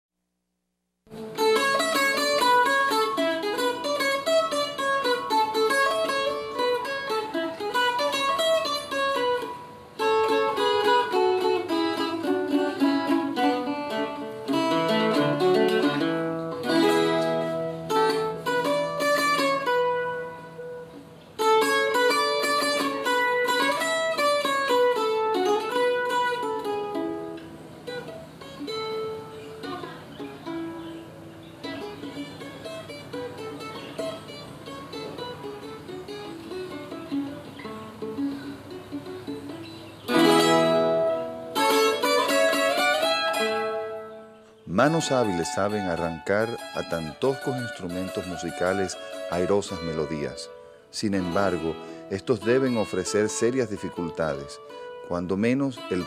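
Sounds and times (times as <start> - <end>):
solo string instrument picked melody: 1.1 - 56.0.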